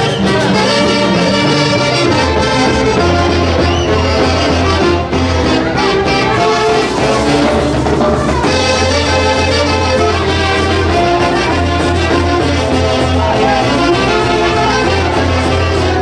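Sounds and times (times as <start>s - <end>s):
brass melody: 0.0s - 16.0s
steady bass line: 0.0s - 16.0s.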